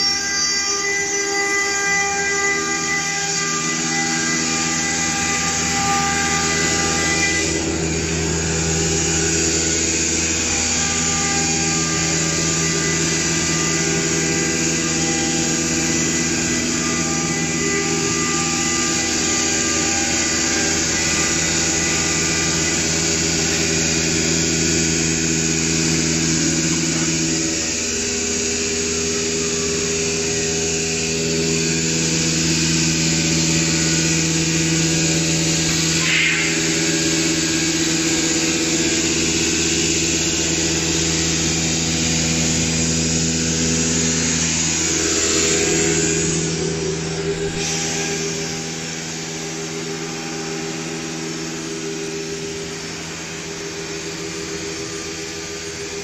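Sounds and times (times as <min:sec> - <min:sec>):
broad machine noise: 0:00.0 - 0:56.0
router spindle motors humming: 0:00.0 - 0:56.0.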